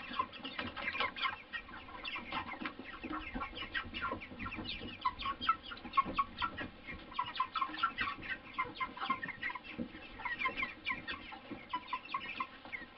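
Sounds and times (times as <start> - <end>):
chickens calling: 0.0 - 12.9.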